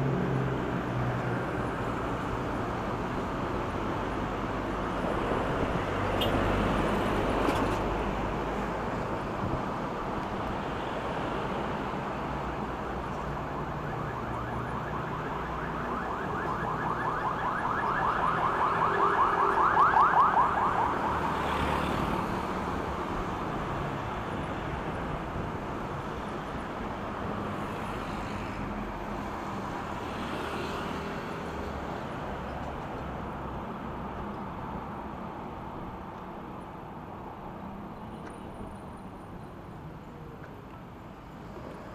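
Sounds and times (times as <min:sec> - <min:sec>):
road and traffic noise: 0:00.0 - 0:41.9.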